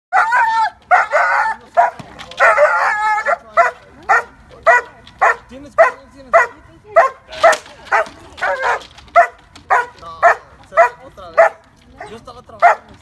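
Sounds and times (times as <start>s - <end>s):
dog barking: 0.1s - 13.0s.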